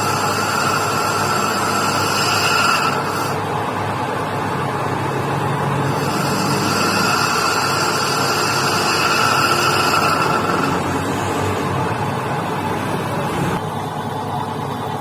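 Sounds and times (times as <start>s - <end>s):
high steady whine: 0.0s - 15.0s
metal lathe running: 0.0s - 15.0s.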